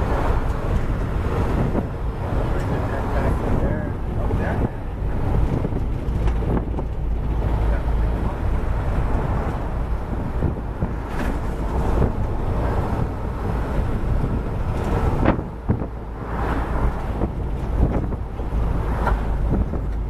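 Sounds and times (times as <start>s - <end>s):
vehicle engine and road rumble: 0.0s - 20.0s
wind buffeting microphone: 0.0s - 20.0s.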